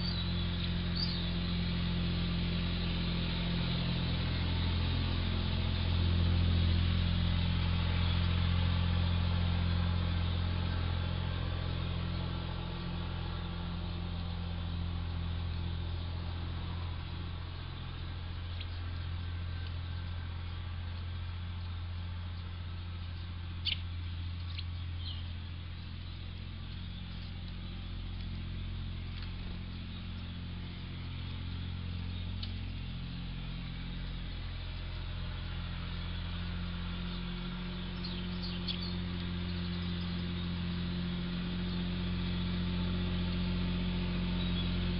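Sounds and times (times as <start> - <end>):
small birds chirping: 0.0 - 44.9
steady low hum with hiss: 0.0 - 44.9.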